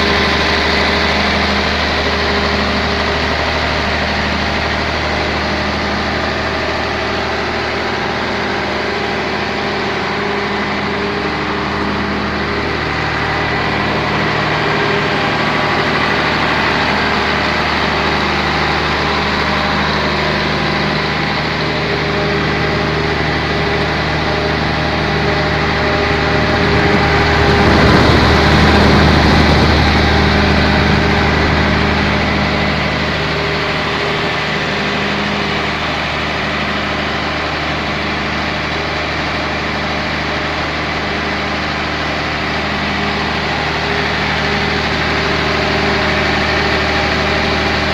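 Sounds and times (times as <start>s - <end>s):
diesel generator running: 0.0s - 47.9s.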